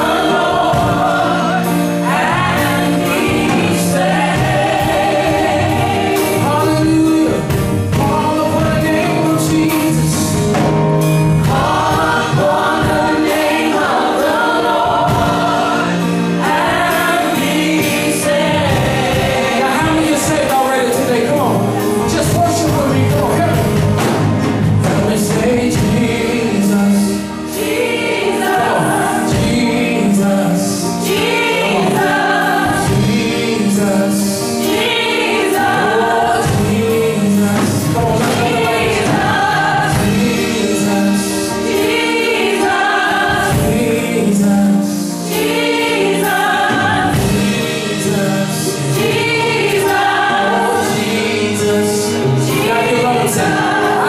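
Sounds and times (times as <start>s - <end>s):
choir singing gospel: 0.0s - 54.0s
live band accompaniment: 0.0s - 54.0s.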